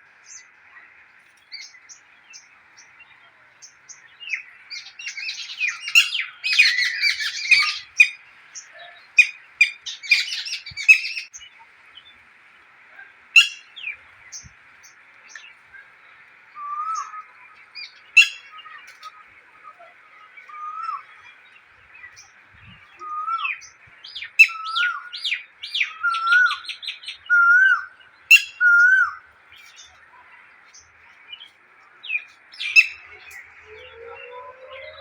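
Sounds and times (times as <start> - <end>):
birds chirping: 0.1 - 35.0.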